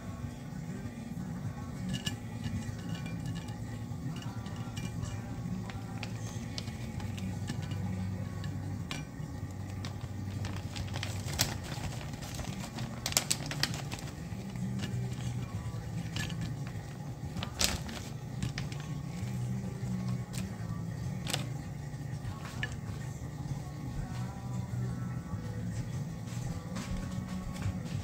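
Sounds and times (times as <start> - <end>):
background music: 0.0 - 28.0.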